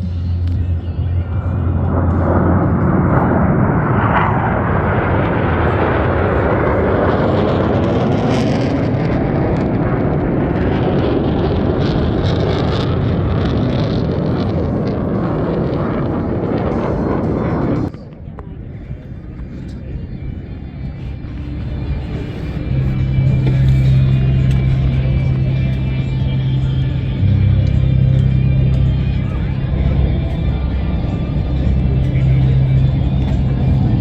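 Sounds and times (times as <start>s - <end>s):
jet engine roar: 0.0s - 34.0s.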